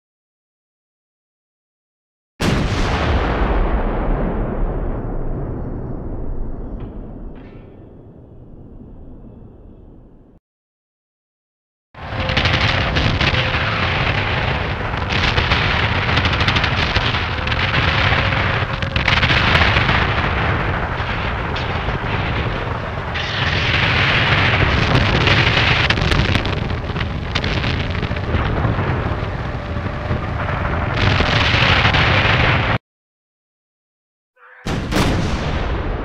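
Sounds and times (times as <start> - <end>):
artillery explosions rumbling: 2.4 - 10.2, 12.0 - 32.8, 34.7 - 36.0.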